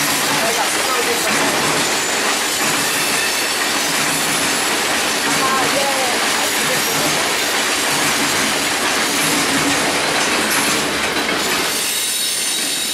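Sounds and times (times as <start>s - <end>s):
steel wheels running on rails: 0.0s - 12.9s.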